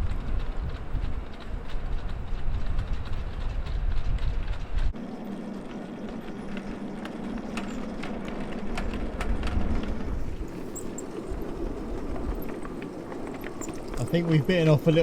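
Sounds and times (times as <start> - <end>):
miniature train hum: 0.0 - 15.0
wheels clicking over rail joints: 0.0 - 15.0
wind buffeting microphone: 0.0 - 15.0.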